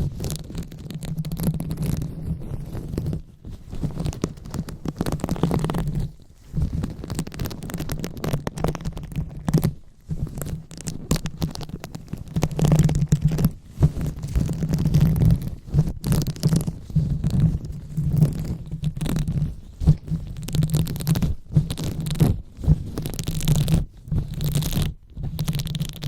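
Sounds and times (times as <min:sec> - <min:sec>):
hands rubbing on microphone: 0:00.0 - 0:26.0.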